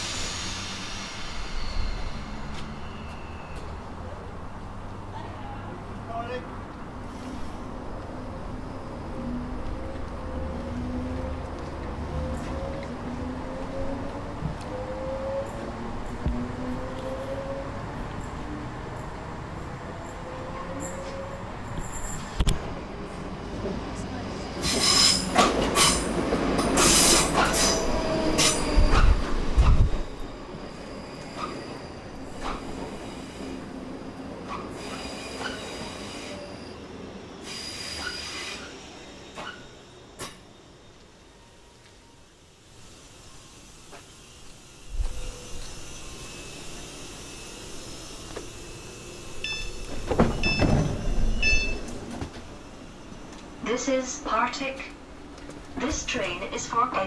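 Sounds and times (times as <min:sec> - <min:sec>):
train wheels squealing on rails: 0:00.0 - 0:04.2, 0:07.0 - 0:11.3, 0:12.0 - 0:22.5, 0:24.2 - 0:54.8
train rumbling: 0:00.0 - 0:57.0.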